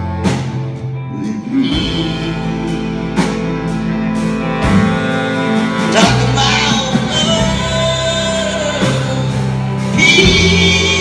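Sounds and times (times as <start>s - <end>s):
live band playing: 0.0s - 11.0s
person singing: 1.0s - 11.0s.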